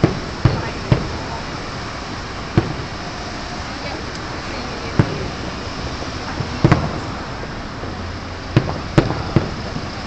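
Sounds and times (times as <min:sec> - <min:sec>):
crowd murmur: 0:00.0 - 0:10.0
distant fireworks bursting: 0:00.0 - 0:10.0
traffic hum: 0:00.0 - 0:10.0.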